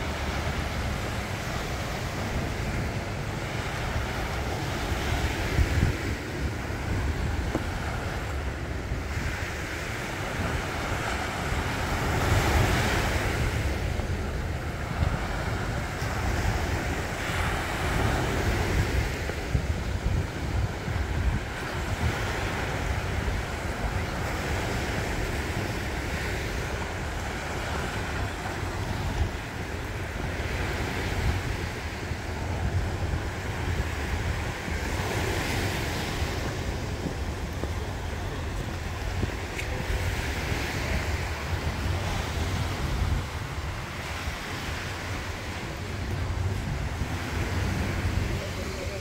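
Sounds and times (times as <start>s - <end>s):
waves washing up a beach: 0.0s - 49.0s
wind rumble on microphone: 0.0s - 49.0s.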